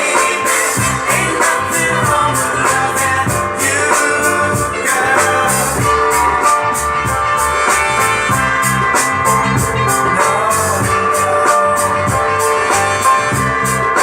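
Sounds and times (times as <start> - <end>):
drum kit beat: 0.0 - 14.0
recorded band music: 0.0 - 14.0.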